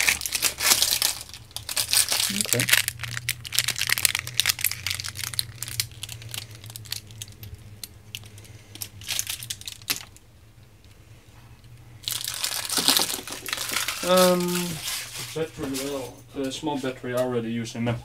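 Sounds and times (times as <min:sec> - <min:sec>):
rustling and crinkling: 0:00.0 - 0:17.3
low steady hum: 0:00.0 - 0:18.0.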